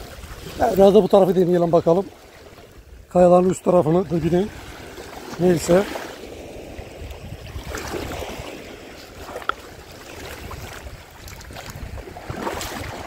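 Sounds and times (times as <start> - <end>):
waves lapping on pebbles: 0.0 - 13.0
wind on microphone: 0.0 - 13.0.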